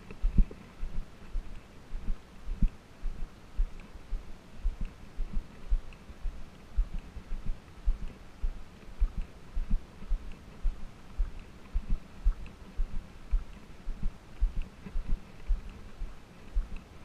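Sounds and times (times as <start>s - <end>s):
footsteps on sandy dirt: 0.0s - 16.8s.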